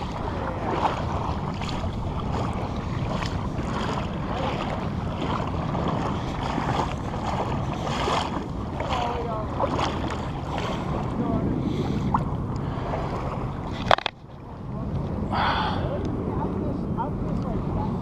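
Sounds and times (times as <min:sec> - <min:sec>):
small splashes: 0:00.0 - 0:14.5
water lapping: 0:00.0 - 0:18.0
wind buffeting microphone: 0:00.0 - 0:18.0.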